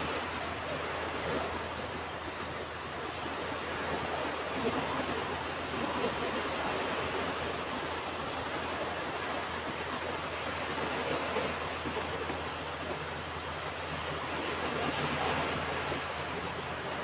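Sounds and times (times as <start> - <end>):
ocean surf on a beach: 0.0 - 17.0.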